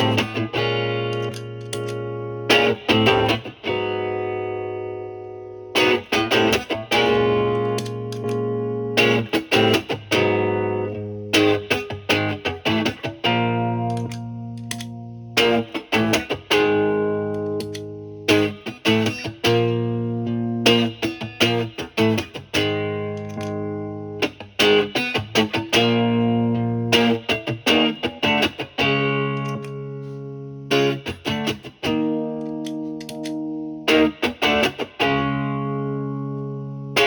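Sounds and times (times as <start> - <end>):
electric guitar picked notes and chords: 0.0 - 37.0.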